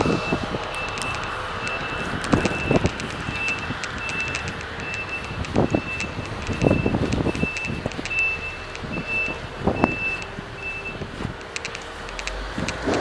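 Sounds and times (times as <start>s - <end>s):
reversing alarm beeping: 0.0s - 11.2s
traffic noise: 0.0s - 13.0s.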